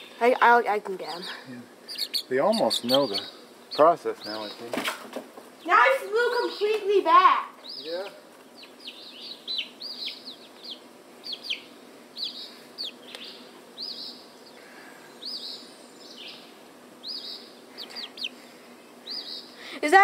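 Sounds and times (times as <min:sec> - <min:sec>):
chicks peeping: 0:01.1 - 0:06.8, 0:07.5 - 0:19.7.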